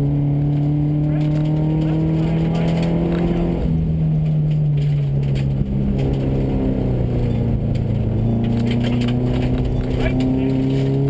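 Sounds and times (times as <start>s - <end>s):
rally car engine from inside cabin: 0.0s - 11.0s.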